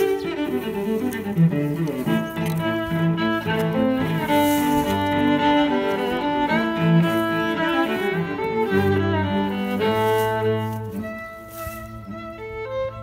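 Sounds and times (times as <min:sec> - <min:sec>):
bowed strings music: 0:00.0 - 0:13.0.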